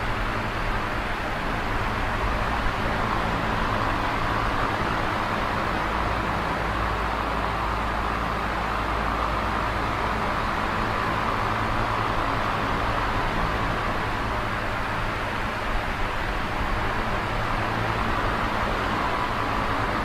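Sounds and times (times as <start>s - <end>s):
fan rushing air: 0.0s - 20.0s.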